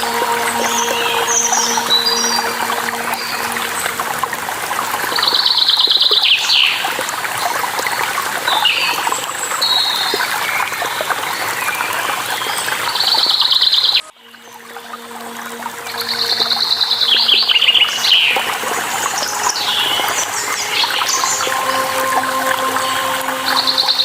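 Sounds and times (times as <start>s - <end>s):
running water: 0.0s - 24.0s.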